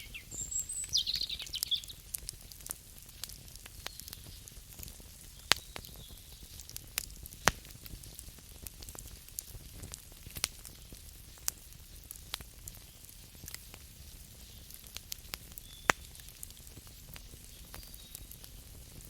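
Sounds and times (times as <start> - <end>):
campfire crackling: 0.0 - 19.0
soft low hiss of fire: 0.0 - 19.0
loud fire pops: 0.2 - 19.0.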